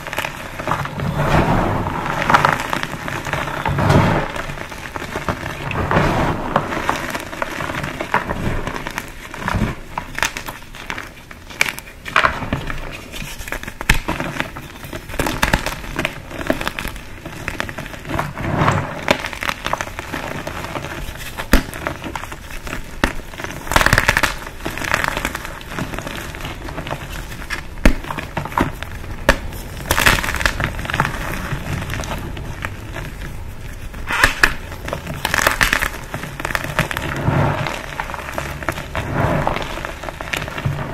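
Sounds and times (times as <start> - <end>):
chalk blocks crunching: 0.0 - 40.9.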